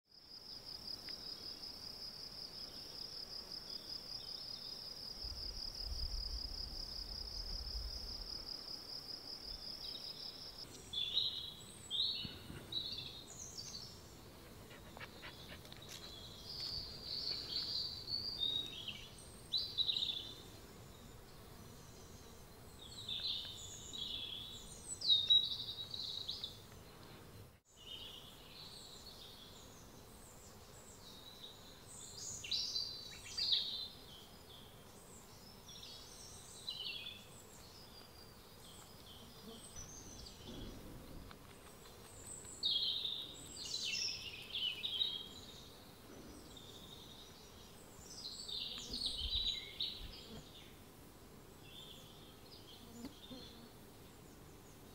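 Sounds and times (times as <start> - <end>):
songbirds singing: 9.6 - 54.9.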